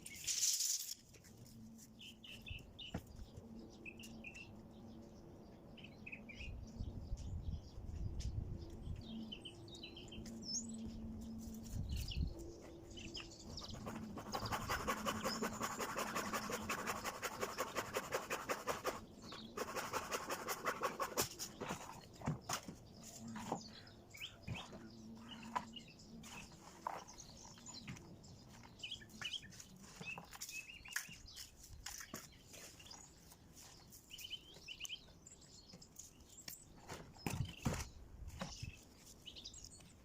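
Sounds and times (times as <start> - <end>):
birds chirping: 1.9 - 40.0.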